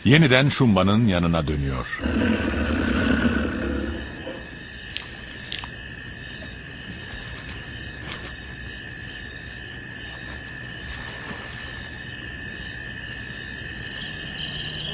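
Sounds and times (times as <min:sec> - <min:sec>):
night insects chirring: 0:00.0 - 0:14.9.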